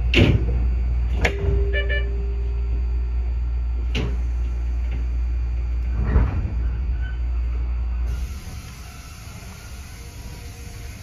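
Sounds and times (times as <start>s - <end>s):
train equipment humming: 0.0s - 11.0s.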